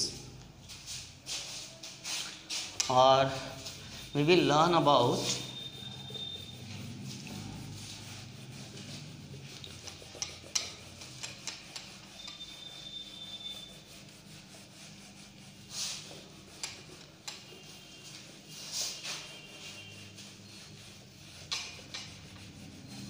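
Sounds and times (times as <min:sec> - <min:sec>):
duster rubbing chalkboard: 0:00.0 - 0:23.0.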